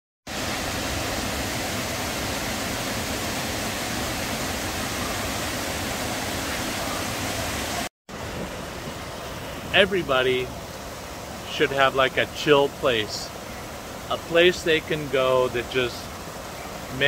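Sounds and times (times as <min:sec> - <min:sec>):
waterfall roaring: 0:00.3 - 0:17.0.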